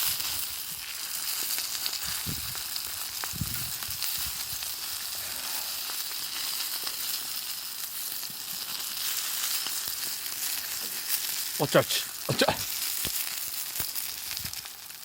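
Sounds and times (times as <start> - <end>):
fire crackles: 0.0 - 15.0
food sizzling over campfire: 0.0 - 15.0.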